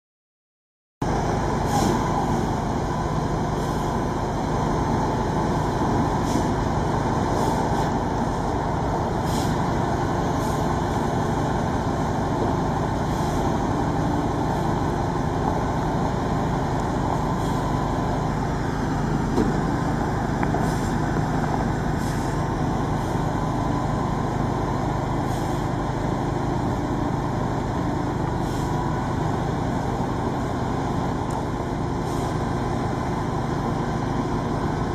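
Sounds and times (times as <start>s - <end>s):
truck crane engine running: 1.0s - 34.9s.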